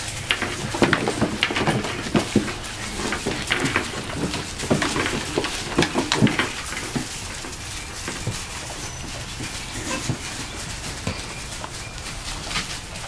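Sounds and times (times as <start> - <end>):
puppies yipping: 0.4 - 13.0.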